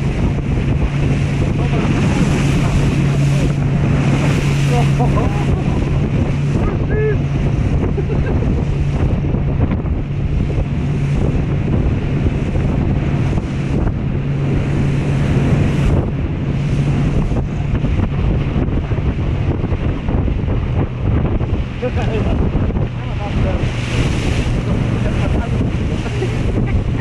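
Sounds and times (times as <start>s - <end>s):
motorboat engine hum: 0.0s - 27.0s
water rushing and spraying: 0.0s - 27.0s
wind buffeting microphone: 0.0s - 27.0s.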